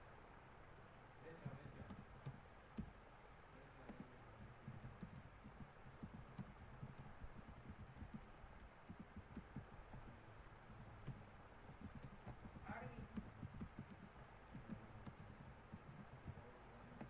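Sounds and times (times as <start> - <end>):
typing on computer keyboard: 1.4 - 17.0.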